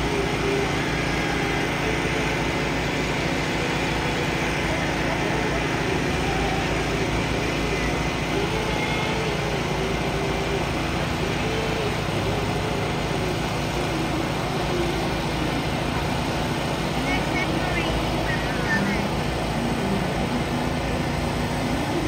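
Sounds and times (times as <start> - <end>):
steady engine noise: 0.0 - 22.0.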